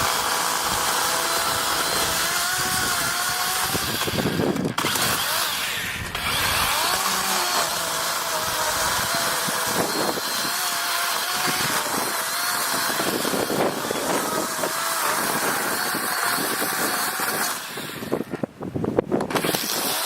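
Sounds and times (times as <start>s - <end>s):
electric chainsaw cutting wood: 0.0s - 18.5s, 19.2s - 20.0s.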